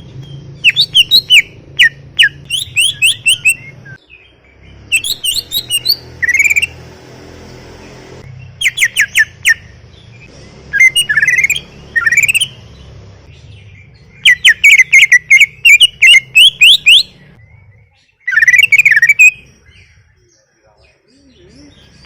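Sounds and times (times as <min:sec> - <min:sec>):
bird singing whistled notes: 0:00.1 - 0:06.8, 0:08.3 - 0:22.0.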